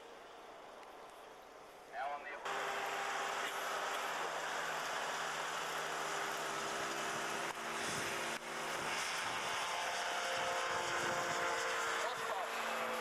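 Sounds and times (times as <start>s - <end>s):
ultralight aircraft engine droning: 2.4s - 13.0s.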